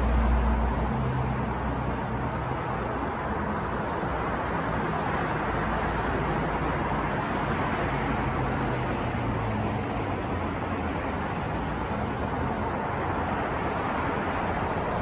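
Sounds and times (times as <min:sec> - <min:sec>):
passing cars and engines: 0:00.0 - 0:15.0.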